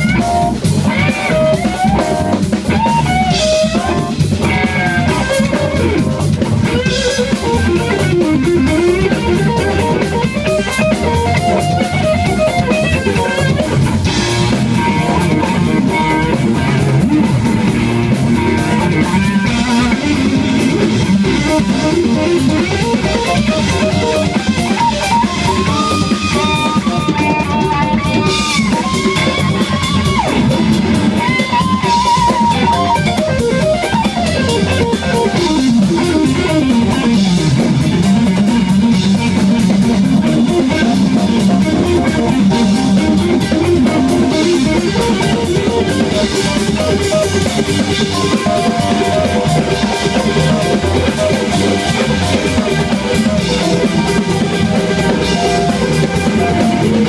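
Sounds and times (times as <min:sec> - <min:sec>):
drum kit: 0:00.0 - 0:57.0
electric guitar solo: 0:00.0 - 0:57.0.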